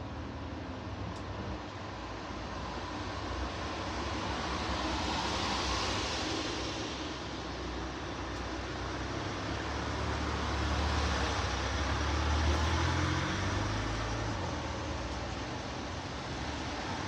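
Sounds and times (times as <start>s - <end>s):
passing road vehicle rumble: 1.4s - 17.0s.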